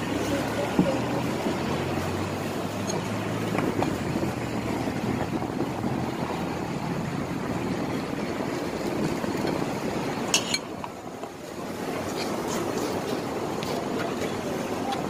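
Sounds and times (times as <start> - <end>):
roadside traffic noise: 0.0 - 15.0.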